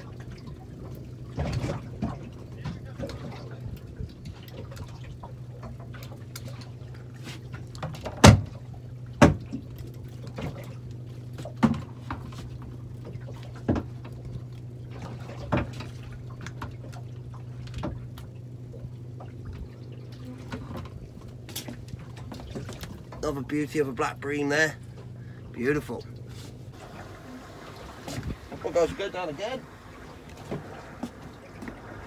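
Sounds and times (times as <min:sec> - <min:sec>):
steady low hum: 0:00.0 - 0:32.0
water lapping against boat hull: 0:00.0 - 0:32.0.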